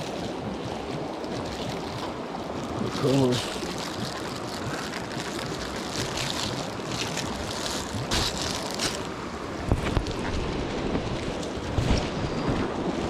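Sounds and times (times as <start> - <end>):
flowing water rushing: 0.0 - 13.0
wind buffeting microphone: 0.0 - 13.0.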